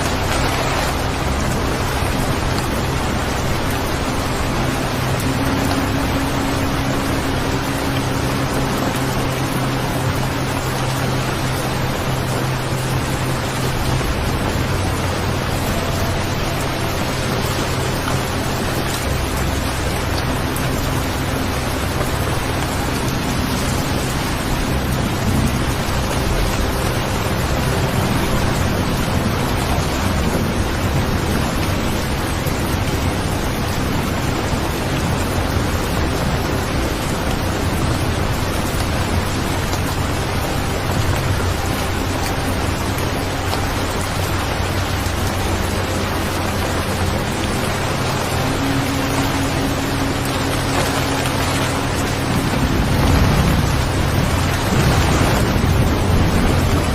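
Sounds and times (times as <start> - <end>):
low rumble: 0.0 - 56.9
steady rain hiss: 0.0 - 56.9.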